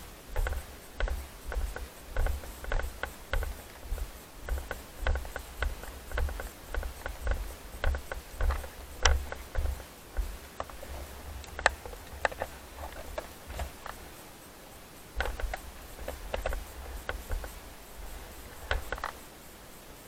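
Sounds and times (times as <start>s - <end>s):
small wheeled vehicle rattling: 0.0s - 14.2s, 15.1s - 19.2s.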